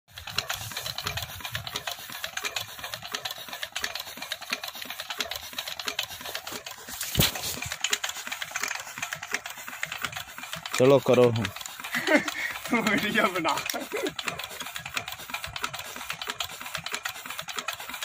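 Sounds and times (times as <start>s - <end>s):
diesel engine clattering: 0.1s - 18.0s.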